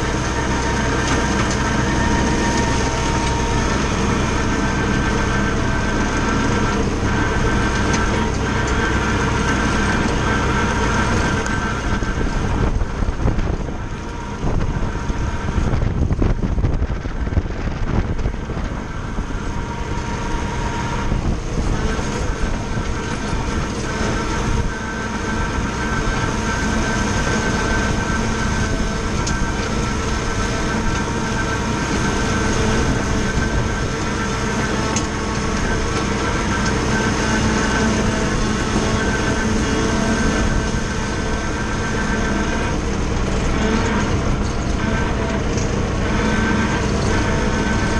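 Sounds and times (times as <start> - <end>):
tractor diesel engine and flail mower: 0.0 - 47.9.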